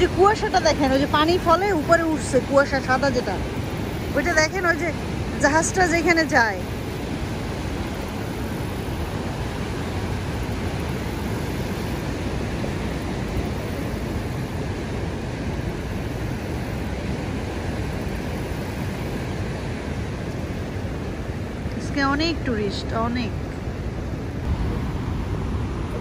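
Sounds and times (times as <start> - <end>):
rushing roar of rapids: 0.0 - 26.0.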